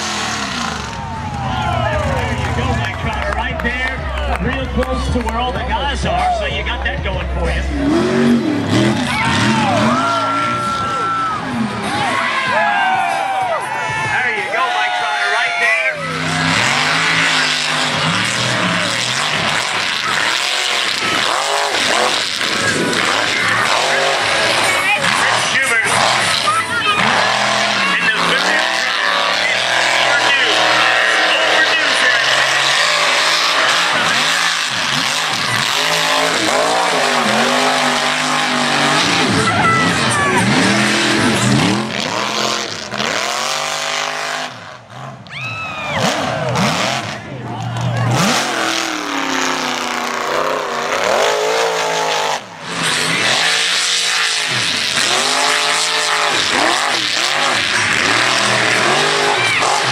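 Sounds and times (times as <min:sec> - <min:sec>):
truck engine revving in mud: 0:00.0 - 0:59.9.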